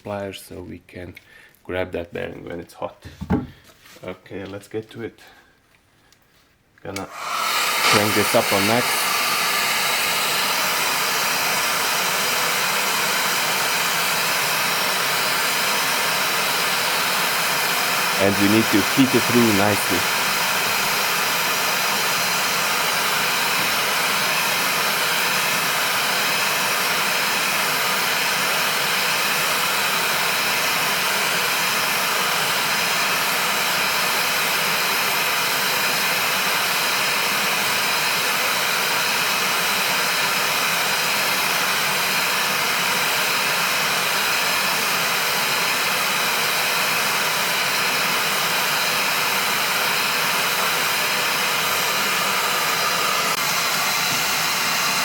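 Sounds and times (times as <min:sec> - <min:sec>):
hot air gun blowing: 0:07.0 - 0:55.0.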